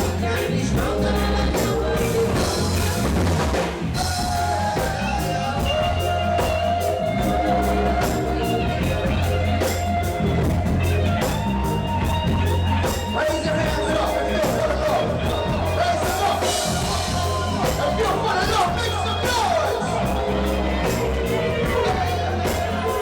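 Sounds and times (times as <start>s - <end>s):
bass: 0.0s - 23.0s
drum kit with cymbal strokes: 0.0s - 23.0s
guitar and keyboard lines: 0.0s - 23.0s.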